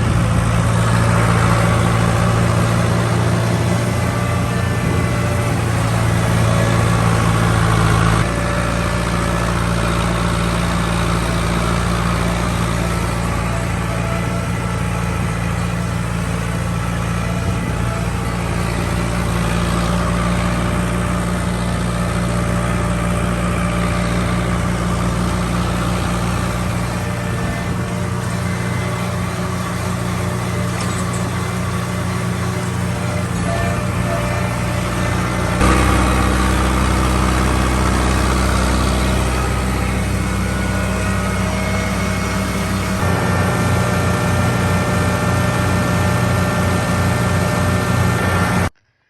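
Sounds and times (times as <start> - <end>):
vehicle engine running: 0.0 - 48.8.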